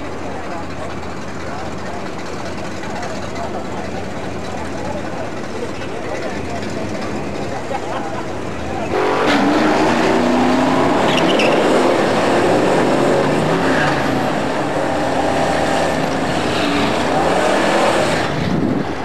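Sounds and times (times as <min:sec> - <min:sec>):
drag racing cars at full throttle: 0:00.0 - 0:19.0.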